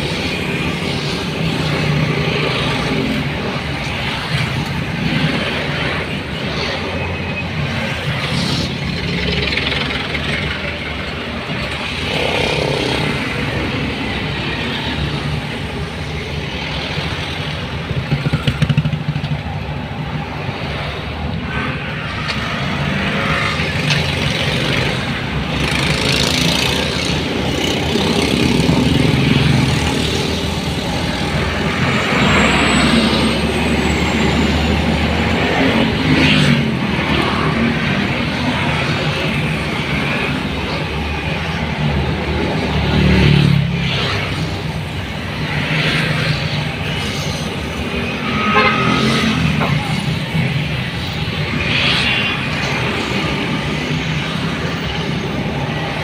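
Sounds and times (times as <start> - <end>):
passing traffic: 0.0 - 56.0
road noise: 0.0 - 56.0.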